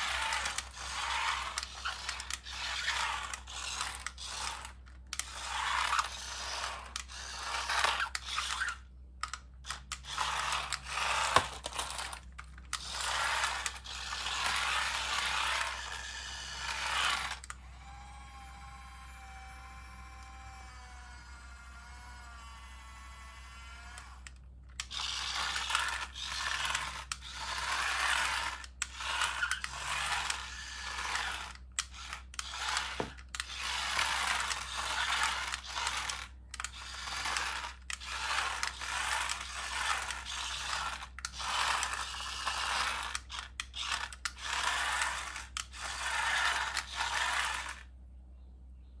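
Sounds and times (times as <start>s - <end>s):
toy motors whirring and grinding: 0.0s - 47.9s.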